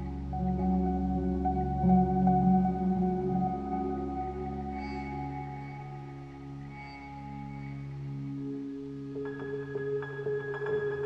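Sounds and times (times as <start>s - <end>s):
ambient meditation music: 0.0s - 11.0s.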